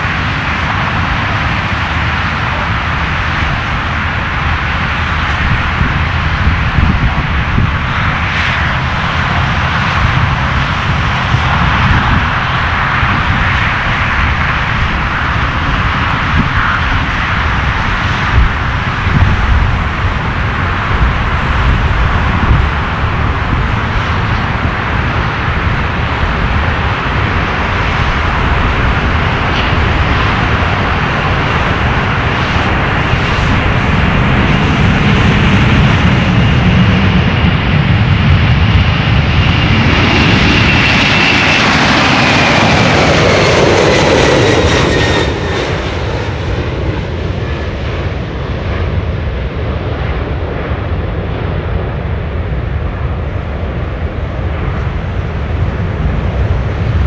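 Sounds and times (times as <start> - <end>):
jet engines rumbling with high whine: 0.0 - 57.0.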